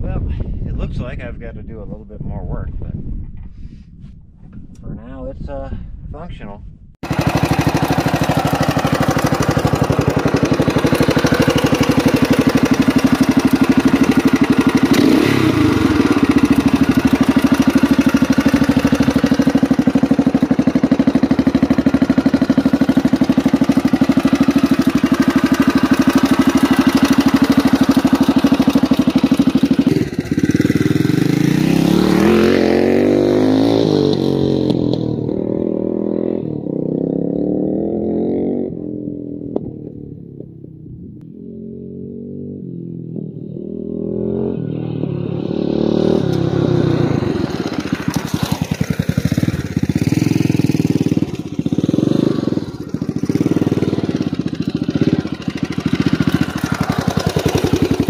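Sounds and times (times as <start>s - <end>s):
motorcycle engine revving: 7.0s - 58.0s.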